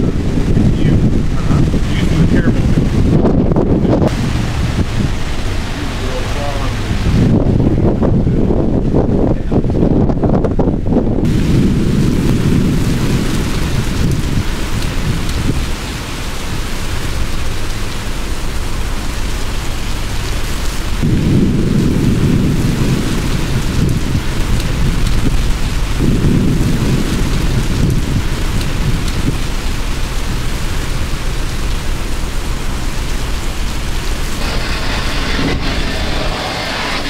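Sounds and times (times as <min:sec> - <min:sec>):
gusting wind: 0:00.0 - 0:37.0
heavy rain pouring: 0:00.0 - 0:37.0
thunder rumbles: 0:00.0 - 0:37.0.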